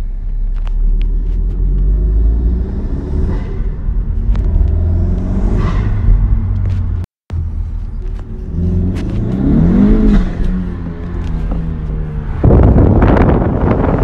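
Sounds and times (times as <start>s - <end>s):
turbocharged engine accelerating: 0.5s - 14.0s.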